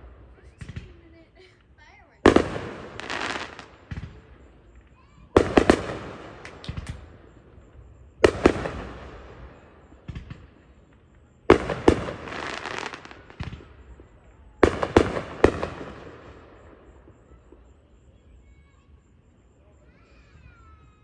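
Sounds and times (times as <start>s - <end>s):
fireworks bangs: 0.0s - 19.2s
faint fireworks pops: 0.0s - 21.0s.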